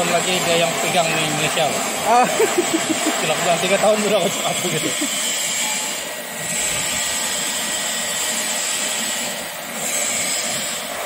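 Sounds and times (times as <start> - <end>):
machinery whirring: 0.0 - 11.0.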